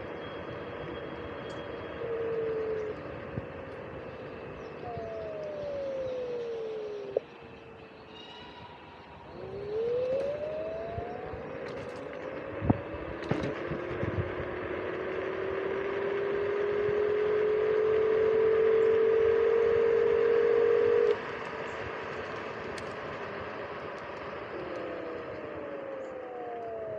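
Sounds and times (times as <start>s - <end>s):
wind and tyre noise: 0.0s - 26.9s
electric motor whining: 1.1s - 7.8s, 9.1s - 26.9s.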